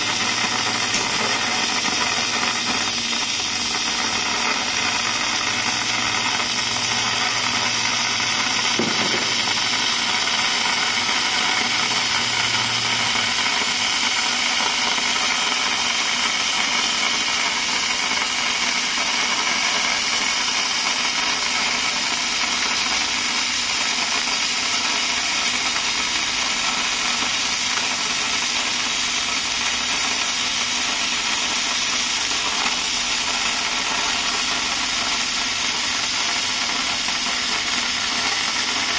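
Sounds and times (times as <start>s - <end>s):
laser cutting steel hiss: 0.0s - 38.9s.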